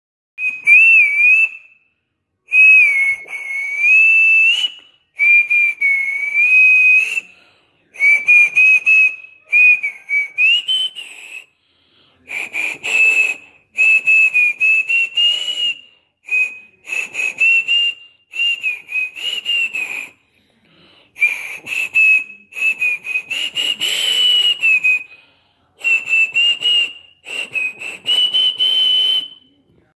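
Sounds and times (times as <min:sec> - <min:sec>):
person whistling bird call: 0:00.4 - 0:01.8, 0:02.5 - 0:07.3, 0:08.0 - 0:11.5, 0:12.3 - 0:20.2, 0:21.2 - 0:25.2, 0:25.8 - 0:29.6.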